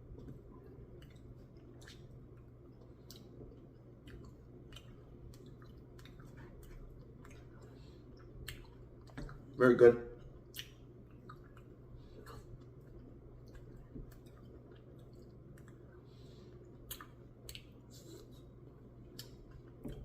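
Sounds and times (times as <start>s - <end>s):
person chewing: 0.0s - 9.6s, 10.2s - 20.0s
low steady hum: 0.0s - 20.0s.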